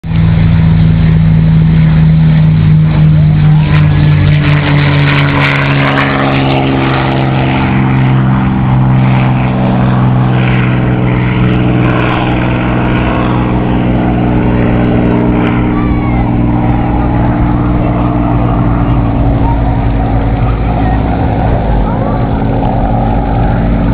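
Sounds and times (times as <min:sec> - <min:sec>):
propeller aircraft engine droning: 0:00.0 - 0:23.9.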